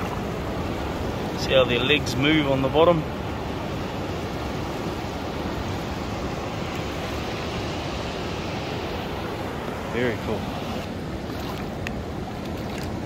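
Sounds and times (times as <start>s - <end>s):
surf washing over sand: 0.0s - 13.0s.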